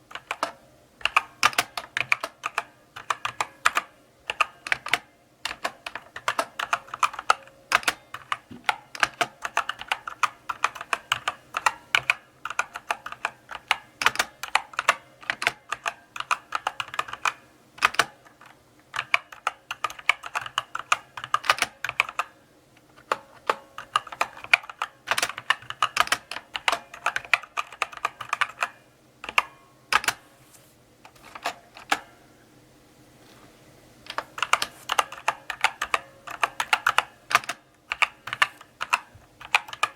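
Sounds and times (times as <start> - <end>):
mechanical keyboard typing: 0.0 - 22.4, 23.0 - 30.2, 31.1 - 32.1, 34.1 - 39.9.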